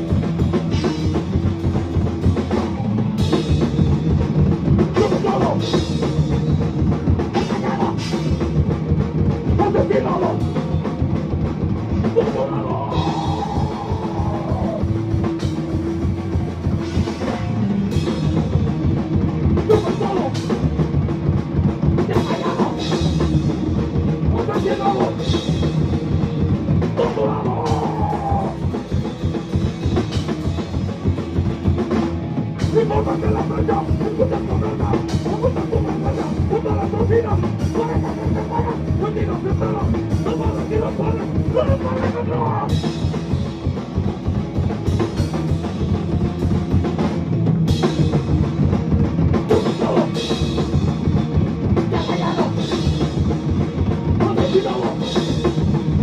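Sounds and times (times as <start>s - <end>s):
drum kit: 0.0s - 56.0s
electric guitar: 0.0s - 56.0s.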